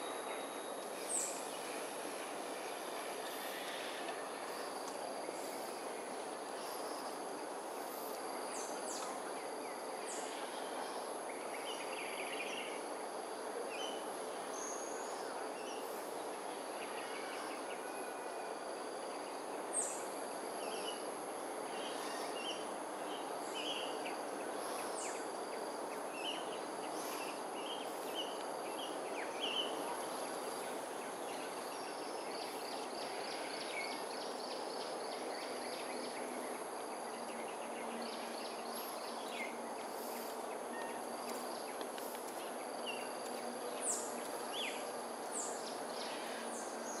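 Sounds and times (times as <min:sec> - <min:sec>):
high insect drone: 0:00.0 - 0:47.0.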